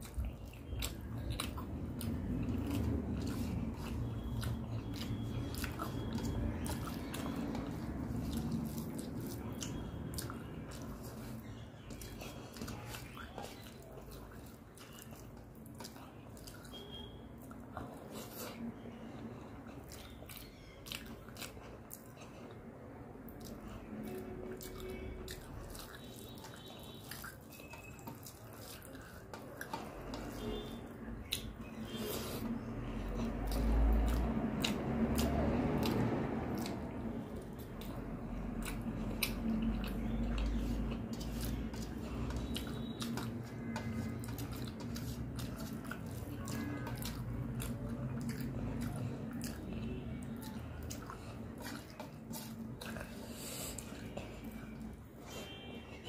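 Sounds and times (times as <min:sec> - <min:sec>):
fingers squishing wet food: 0:00.0 - 0:55.1
close-up chewing: 0:00.0 - 0:56.0.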